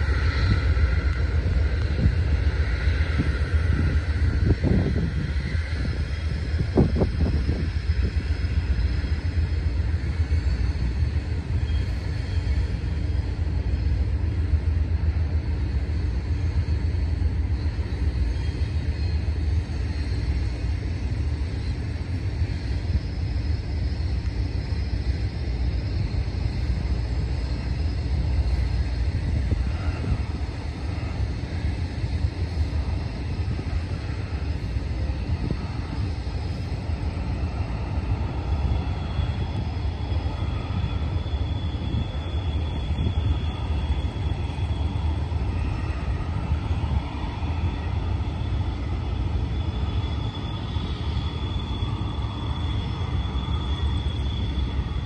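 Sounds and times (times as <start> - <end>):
diesel locomotives rumbling: 0.0 - 55.0
train cars rolling: 0.0 - 55.0.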